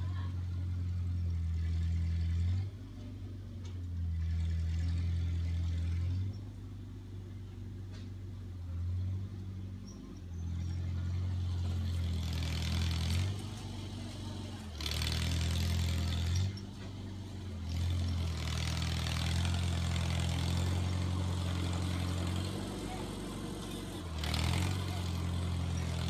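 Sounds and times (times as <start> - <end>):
tractor engine working under load: 0.0 - 26.0.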